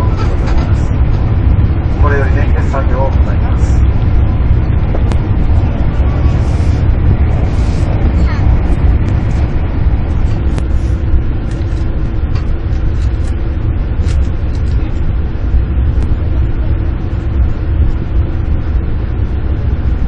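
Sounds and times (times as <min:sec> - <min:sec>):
train cabin rumble: 0:00.0 - 0:20.0.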